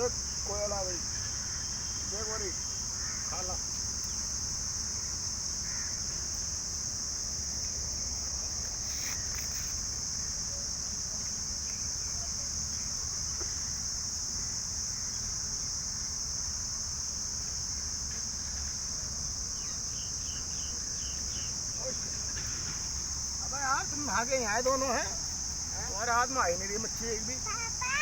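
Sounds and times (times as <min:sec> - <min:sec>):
insects chorus: 0:00.0 - 0:28.0.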